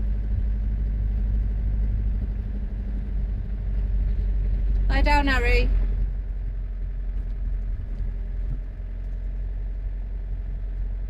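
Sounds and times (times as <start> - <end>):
motorhome engine drone: 0.0 - 11.0
road rumble: 0.0 - 11.0.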